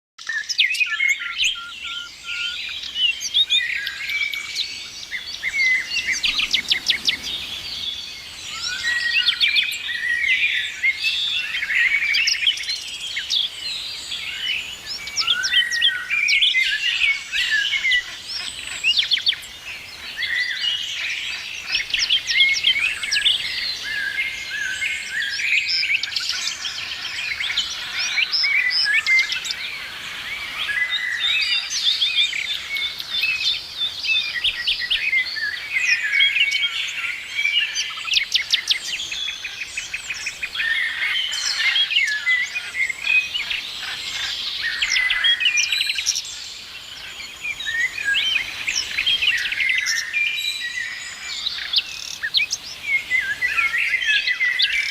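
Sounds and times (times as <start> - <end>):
songbirds chirping and singing: 0.2 - 54.9.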